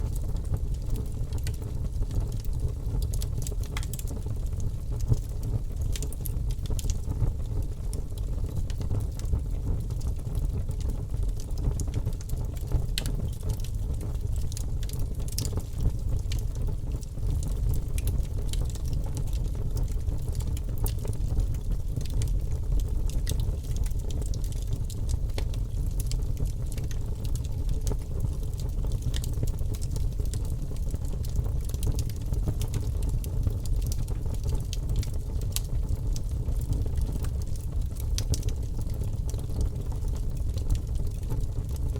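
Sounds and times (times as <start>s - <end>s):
bonfire crackling and rumbling: 0.0s - 41.9s.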